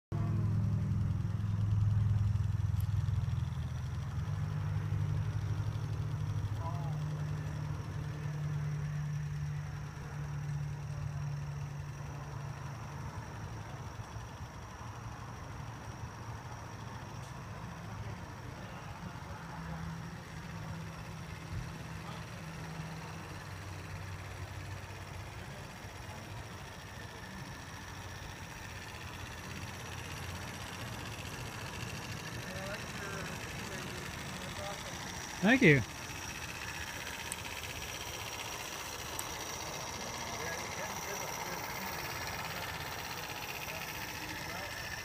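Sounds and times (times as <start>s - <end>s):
engine humming with fast pulse: 0.1s - 45.0s.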